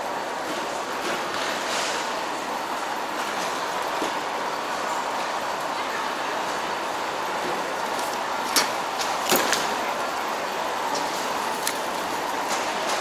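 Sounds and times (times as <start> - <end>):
baggage carousel hum: 0.0 - 13.0.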